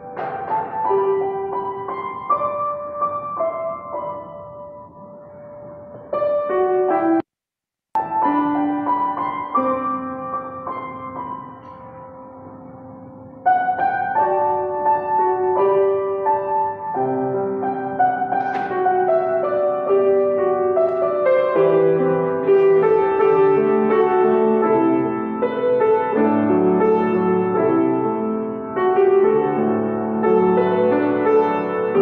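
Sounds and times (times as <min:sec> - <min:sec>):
piano music: 0:00.0 - 0:07.3, 0:08.0 - 0:32.0.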